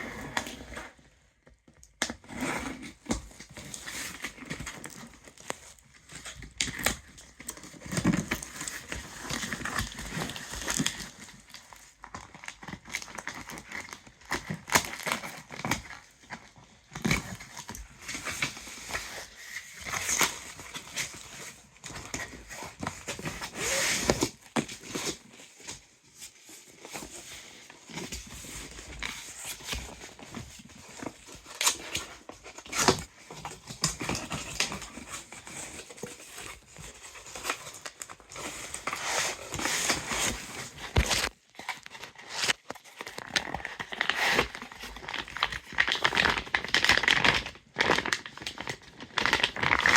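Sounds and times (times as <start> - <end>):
packaging crinkling and rustling: 0.0 - 49.9.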